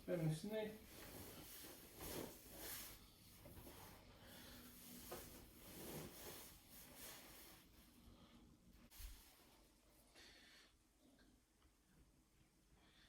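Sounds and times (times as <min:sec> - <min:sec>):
soft breaths: 0:00.6 - 0:13.0.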